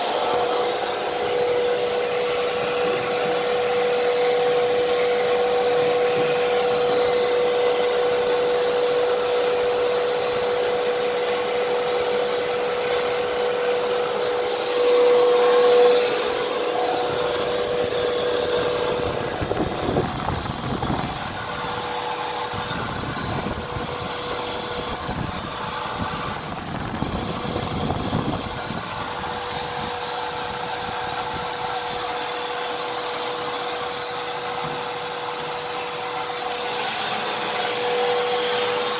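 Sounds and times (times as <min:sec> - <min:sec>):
vacuum cleaner whine: 0:00.0 - 0:38.9.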